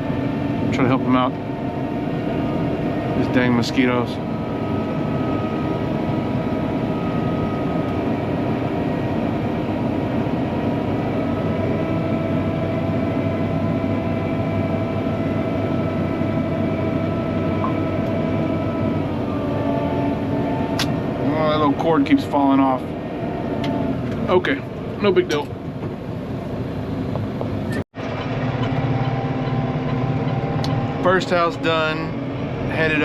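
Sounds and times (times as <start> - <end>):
faint whining tones: 0.0 - 33.0
fogger machine drone: 0.0 - 33.0.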